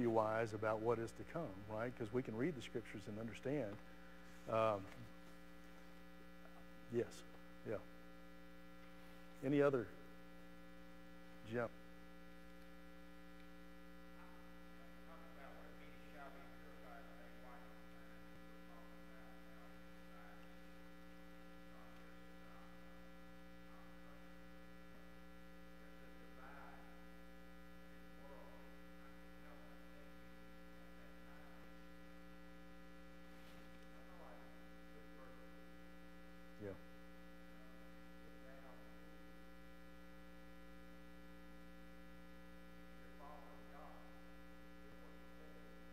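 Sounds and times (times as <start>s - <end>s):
electrical mains hum: 0.0s - 45.9s.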